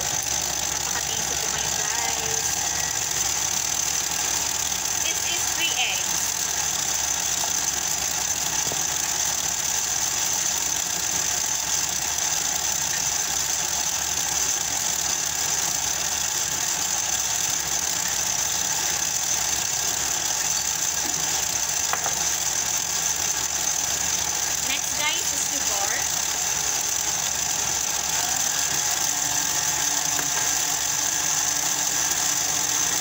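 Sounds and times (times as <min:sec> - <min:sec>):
stand mixer beating eggs: 0:00.0 - 0:33.0.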